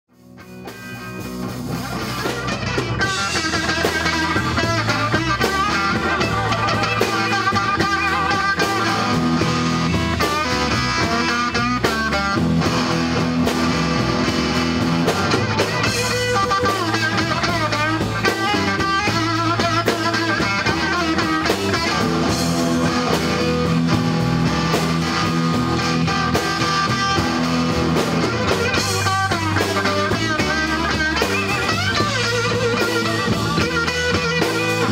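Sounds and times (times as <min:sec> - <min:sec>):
bass and drums: 0:00.1 - 0:34.9
electric guitar: 0:00.1 - 0:34.9
rock music: 0:00.1 - 0:34.9.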